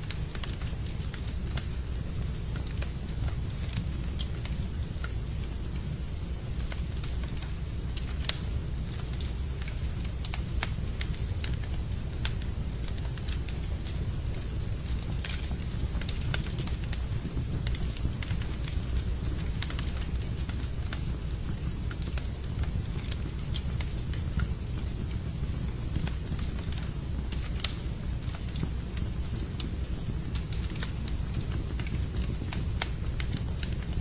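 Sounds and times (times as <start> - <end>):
fire crackling and popping: 0.0 - 34.0
fire flames rumbling: 0.0 - 34.0.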